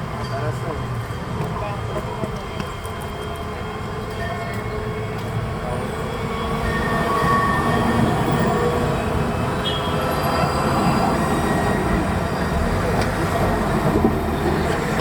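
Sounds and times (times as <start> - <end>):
tram rumbling on rails: 0.0 - 15.0
high wheel squeals: 1.7 - 15.0.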